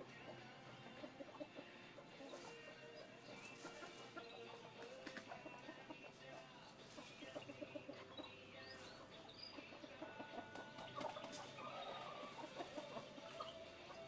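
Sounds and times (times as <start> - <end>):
faint chickens clucking: 0.0 - 14.0.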